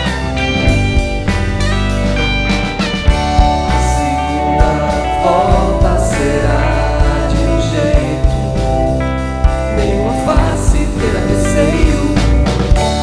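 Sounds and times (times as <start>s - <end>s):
band music with drums and bass: 0.0s - 13.0s.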